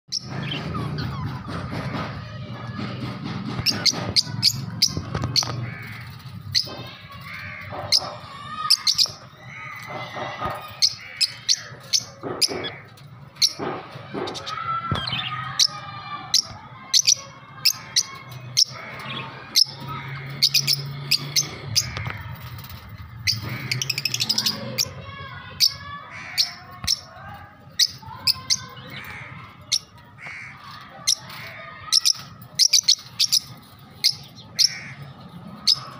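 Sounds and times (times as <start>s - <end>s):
budgies chattering and warbling: 0.1s - 35.9s.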